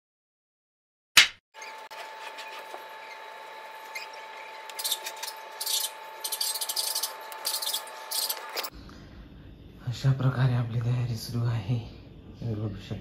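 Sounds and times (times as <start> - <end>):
steady hum: 1.6 - 12.8.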